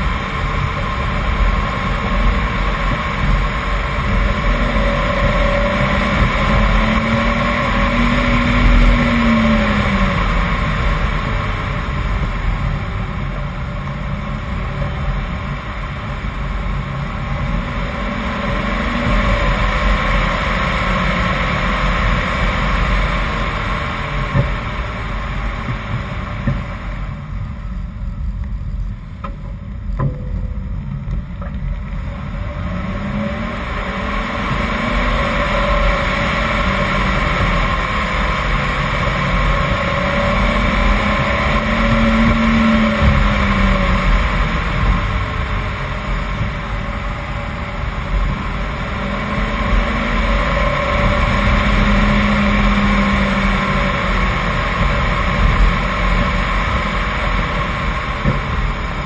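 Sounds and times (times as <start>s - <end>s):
car engine revving uphill: 0.0s - 59.0s
wind and road noise: 0.0s - 59.0s.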